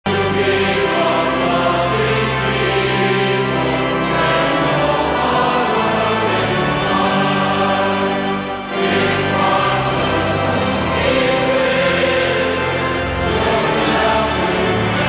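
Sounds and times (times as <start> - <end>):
choir singing held chords: 0.1 - 15.0
musical accompaniment: 0.1 - 15.0.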